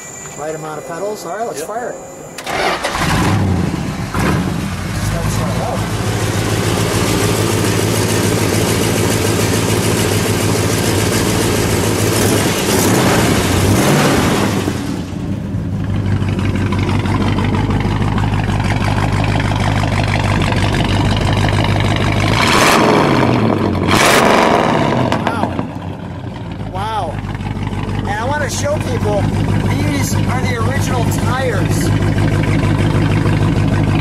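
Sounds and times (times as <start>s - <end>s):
car engine idling and revving: 2.0s - 34.0s.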